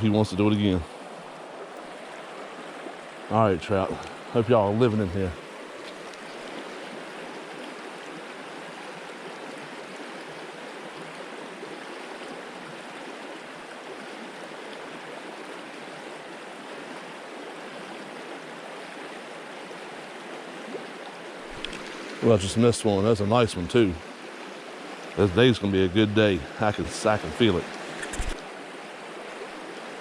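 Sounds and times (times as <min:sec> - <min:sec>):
stream flowing: 0:00.0 - 0:30.0.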